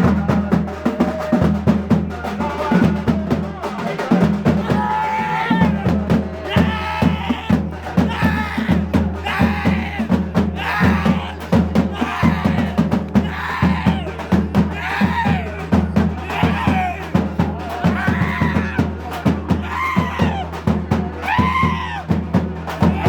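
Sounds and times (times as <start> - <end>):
music with fast drumming: 0.0 - 23.0.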